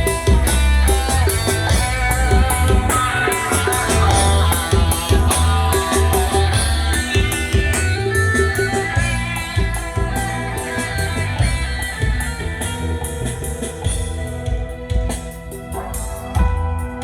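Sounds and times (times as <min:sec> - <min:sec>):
bass: 0:00.0 - 0:17.0
guitar: 0:00.0 - 0:17.0
steady drum beat: 0:00.0 - 0:17.0.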